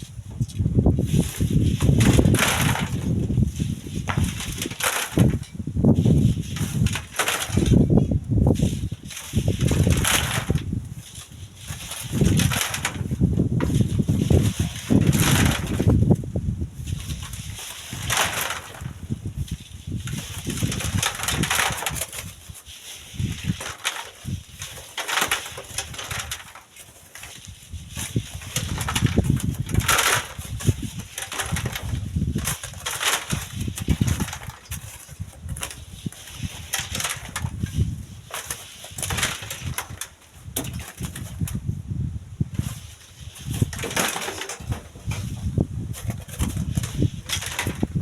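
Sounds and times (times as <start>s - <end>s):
gusty wind on microphone: 0.0s - 24.7s, 27.3s - 38.3s, 38.9s - 48.0s.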